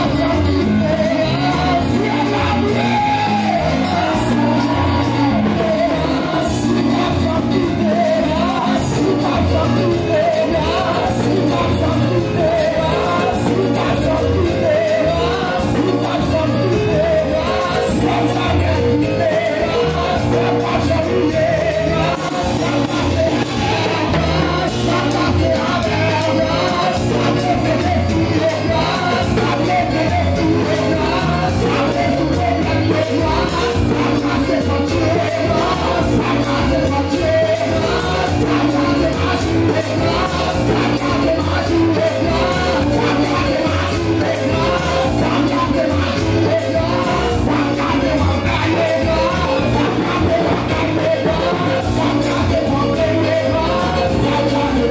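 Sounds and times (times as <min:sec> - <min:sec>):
band with pulsing bass line: 0:00.0 - 0:54.9
congregation singing and shouting: 0:00.0 - 0:54.9
man singing into a microphone: 0:00.0 - 0:54.9
steady percussion beat: 0:00.0 - 0:54.9.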